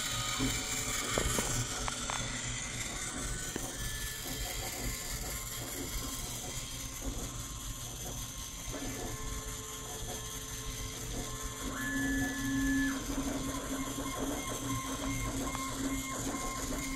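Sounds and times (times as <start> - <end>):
printer motors humming: 0.0 - 16.9.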